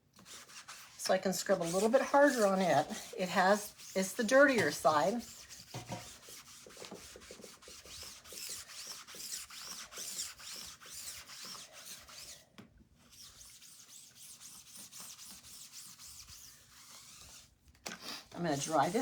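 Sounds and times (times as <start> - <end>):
eraser scrubbing: 0.2 - 12.4, 13.1 - 19.0.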